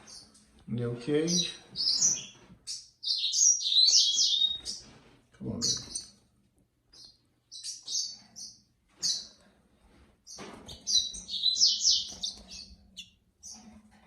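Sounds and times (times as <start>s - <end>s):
finch chirping and singing: 0.0s - 6.2s, 6.9s - 9.5s, 10.2s - 13.9s.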